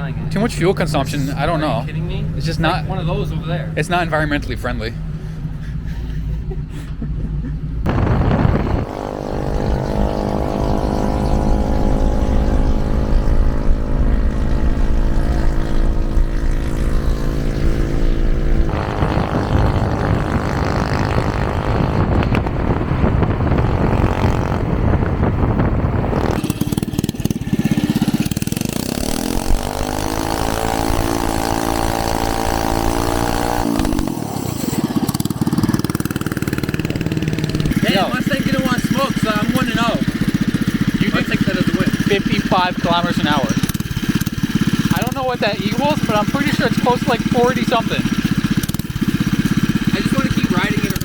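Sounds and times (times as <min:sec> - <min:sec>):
mini-bike engine revving: 0:07.8 - 0:51.0.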